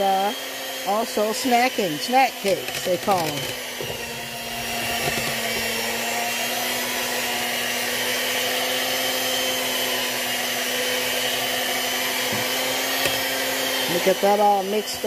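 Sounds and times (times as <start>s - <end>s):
electric hand mixer whirring: 0.0s - 15.0s.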